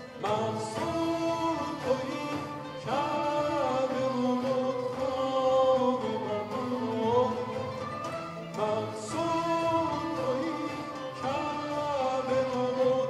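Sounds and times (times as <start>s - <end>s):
man singing: 0.0s - 13.0s
ney flute: 0.0s - 13.0s
violins playing: 0.0s - 13.0s.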